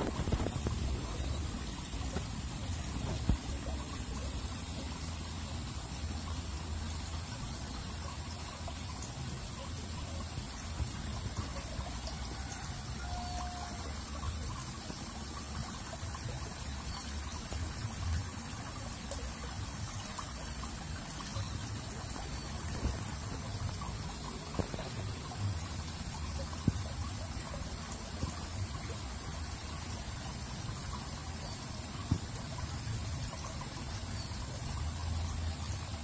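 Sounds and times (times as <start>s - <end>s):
water trickling in channel: 0.0s - 36.0s.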